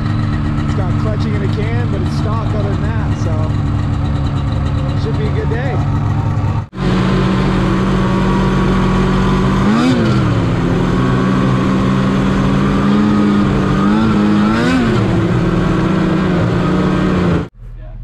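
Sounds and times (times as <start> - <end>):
snowmobile engine running: 0.0 - 17.5
snowmobile throttle blips: 0.0 - 17.5.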